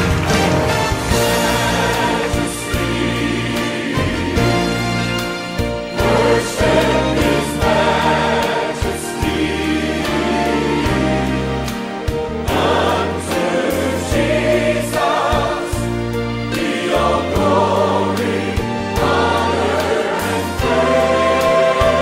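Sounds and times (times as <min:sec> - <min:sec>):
background music: 0:00.0 - 0:22.0
voices singing: 0:01.2 - 0:05.2, 0:05.9 - 0:11.7, 0:12.4 - 0:22.0.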